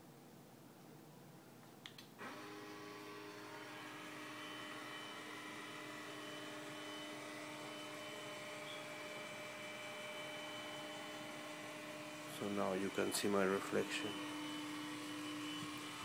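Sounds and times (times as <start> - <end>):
electric motor humming: 2.2 - 16.0.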